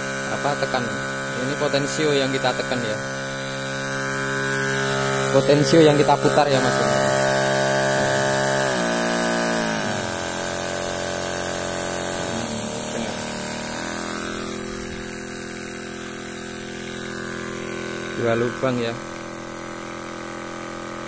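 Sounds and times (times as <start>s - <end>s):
electric pump whining: 0.0s - 21.0s
spray hissing from nozzle: 0.4s - 20.2s.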